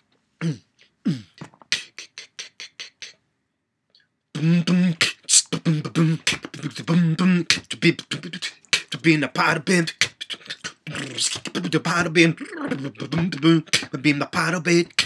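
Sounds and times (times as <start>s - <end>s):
man beatboxing: 0.4s - 3.2s, 4.4s - 15.0s.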